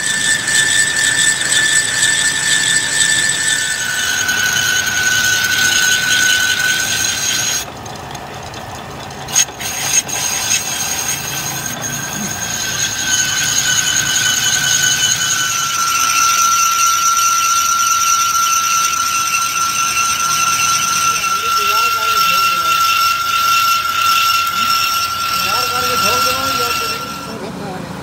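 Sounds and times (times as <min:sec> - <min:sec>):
lathe cutting tool squealing: 0:00.0 - 0:28.0
lathe machine running: 0:00.0 - 0:28.0.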